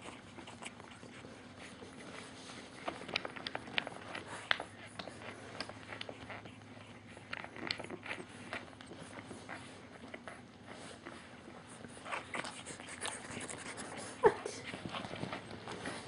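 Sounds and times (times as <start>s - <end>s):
soft clicks and rustles: 0.0s - 16.0s.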